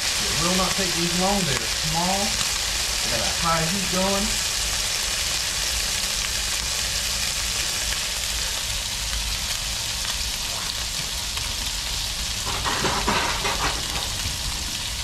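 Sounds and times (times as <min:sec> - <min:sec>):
fish sizzling in a skillet: 0:00.0 - 0:15.0.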